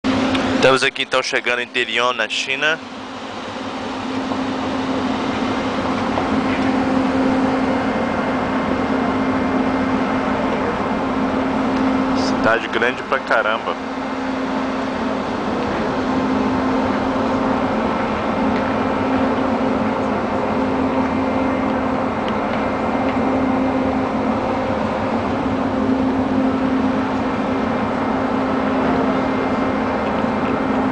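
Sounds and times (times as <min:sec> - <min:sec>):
ship engine drone: 0:00.0 - 0:30.9.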